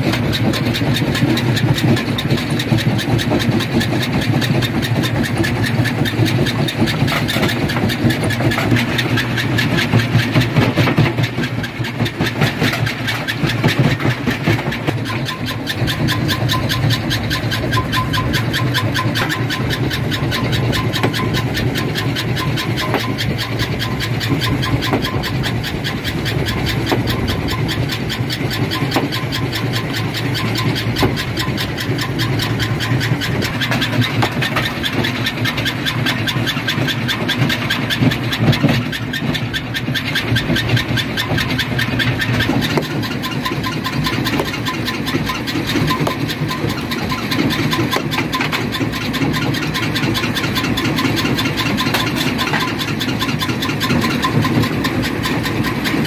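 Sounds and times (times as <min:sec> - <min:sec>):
rock crusher clattering: 0:00.1 - 0:56.0.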